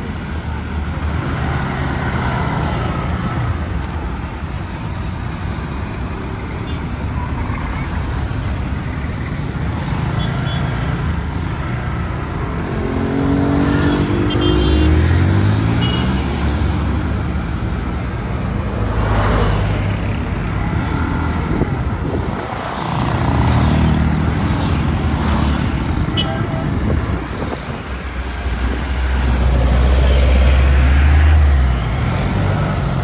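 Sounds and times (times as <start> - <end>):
road rumble: 0.0 - 33.0.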